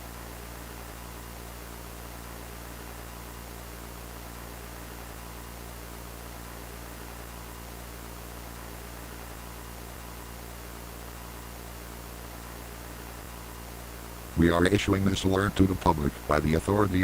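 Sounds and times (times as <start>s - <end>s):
analogue static hiss: 0.0s - 17.0s
low mains hum: 0.0s - 17.0s.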